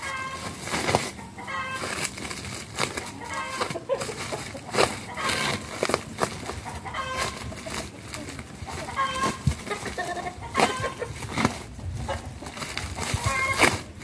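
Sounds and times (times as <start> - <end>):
chickens clucking: 0.0 - 14.0
rustles: 0.0 - 14.0.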